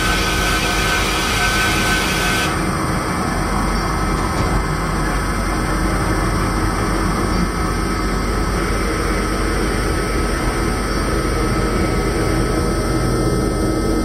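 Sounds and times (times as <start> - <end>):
rumbling drone: 0.0 - 14.0.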